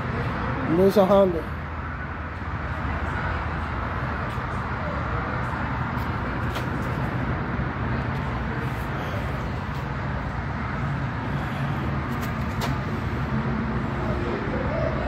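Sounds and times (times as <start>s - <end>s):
traffic and engine rumble: 0.0s - 15.0s.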